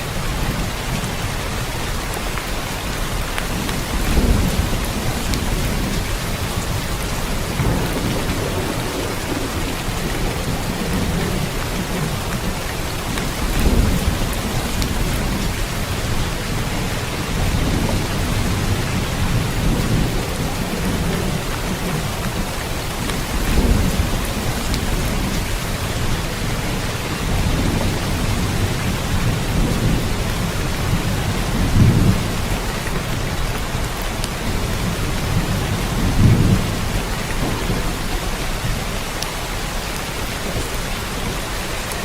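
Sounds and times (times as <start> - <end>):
heavy rain hissing: 0.0 - 42.0
thunder rumbling: 0.0 - 42.0.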